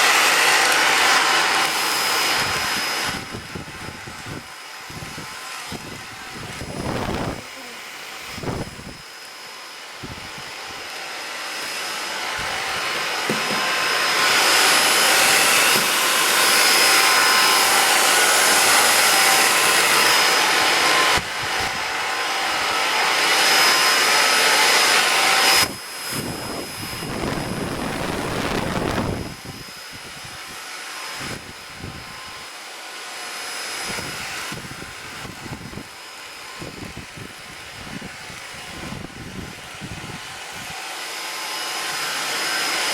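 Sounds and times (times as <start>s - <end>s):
cordless vacuum cleaner running: 0.0s - 42.9s.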